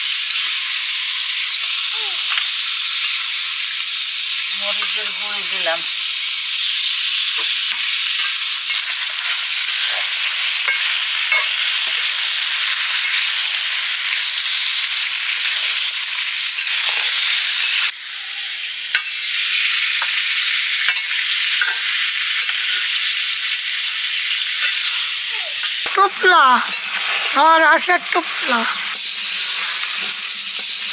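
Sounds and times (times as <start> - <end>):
meat sizzling in a pan: 0.0 - 26.0, 26.7 - 30.9.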